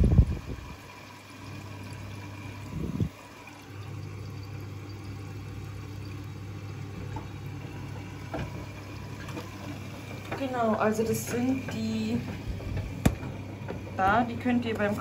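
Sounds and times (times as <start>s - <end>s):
water splashing into washing machine: 0.0s - 15.0s.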